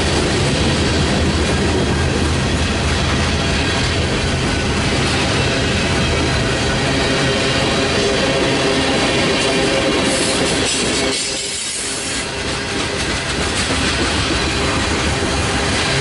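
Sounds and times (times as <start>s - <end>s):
freight train cars rolling: 0.0s - 16.0s.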